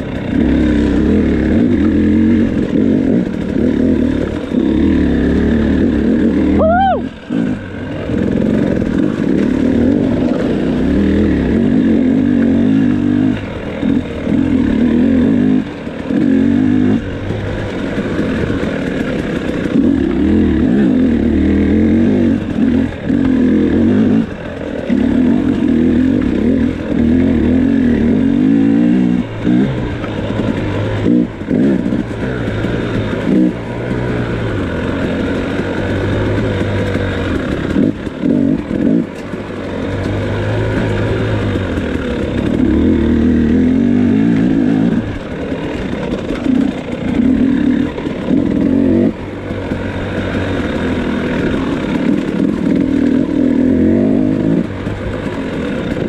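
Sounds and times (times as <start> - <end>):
two-stroke motorbike engine revving: 0.0 - 56.0.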